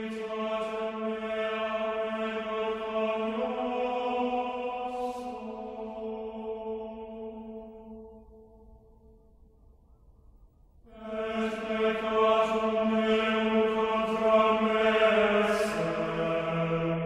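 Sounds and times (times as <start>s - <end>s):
deep chant-like drone: 0.0s - 9.0s, 10.8s - 17.0s.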